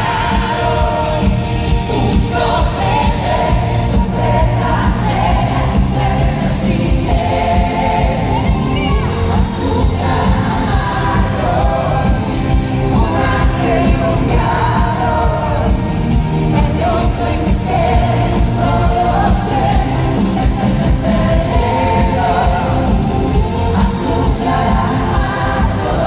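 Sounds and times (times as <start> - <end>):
amplified dance-pop music: 0.0 - 26.0
woman singing: 0.0 - 26.0.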